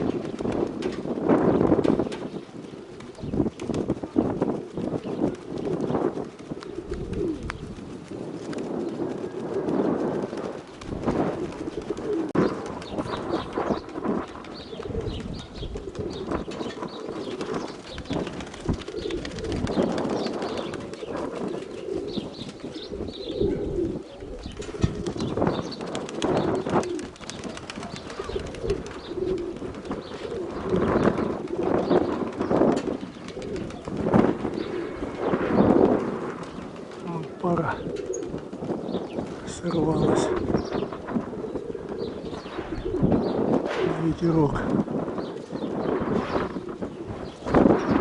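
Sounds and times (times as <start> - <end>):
pigeons cooing: 0.0 - 48.0
wind rumbling on microphone: 0.0 - 48.0.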